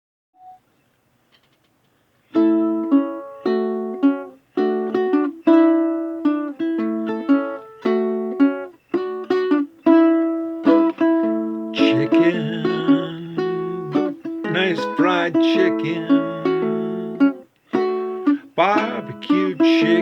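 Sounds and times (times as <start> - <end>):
ukulele strumming chords: 2.3 - 20.0.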